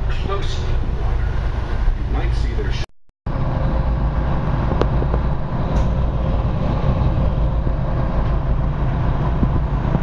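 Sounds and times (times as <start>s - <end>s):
boat engines running: 0.0s - 10.0s.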